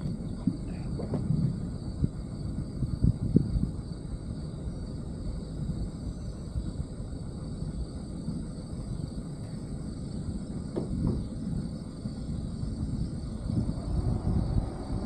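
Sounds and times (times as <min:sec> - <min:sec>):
wind buffeting microphone: 0:00.0 - 0:08.6, 0:10.2 - 0:15.0
insect chorus: 0:00.0 - 0:15.0.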